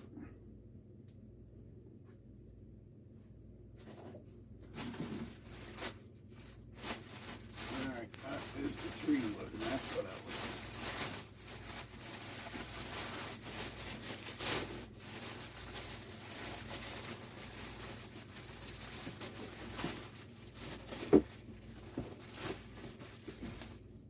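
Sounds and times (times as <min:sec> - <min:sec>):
packaging rustling and crinkling: 0:03.8 - 0:24.0.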